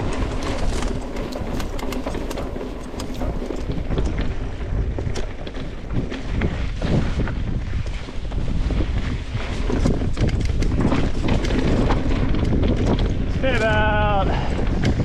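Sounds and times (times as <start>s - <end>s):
bike rattling and clicking: 0.0s - 15.0s
tyres rolling on dirt: 0.0s - 15.0s
wind rushing over microphone: 0.0s - 15.0s.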